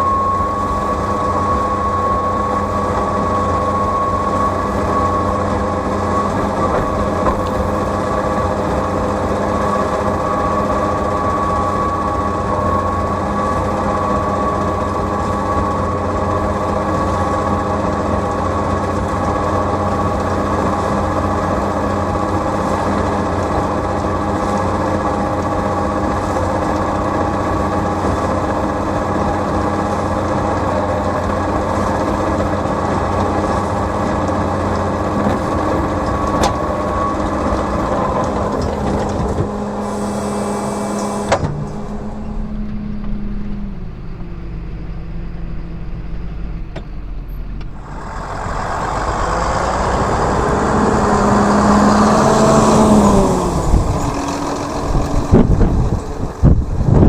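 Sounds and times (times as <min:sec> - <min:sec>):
high whine: 0:00.0 - 0:57.0
tractor engine running: 0:00.0 - 0:57.0.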